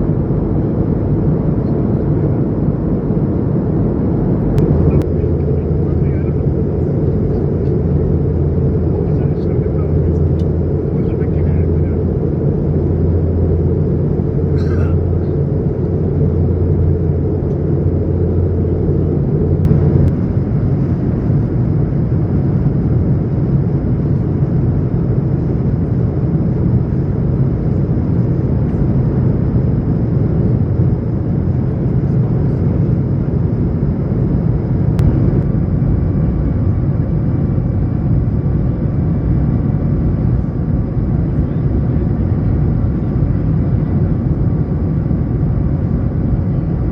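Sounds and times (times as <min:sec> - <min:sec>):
aircraft cabin engine drone: 0:00.0 - 0:46.9
faint steady whine: 0:00.0 - 0:46.9.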